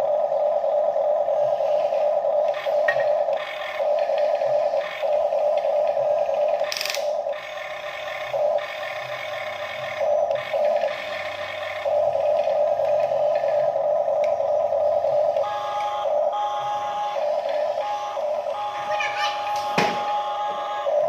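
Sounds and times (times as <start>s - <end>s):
toy electric motors whirring: 0.0s - 21.0s.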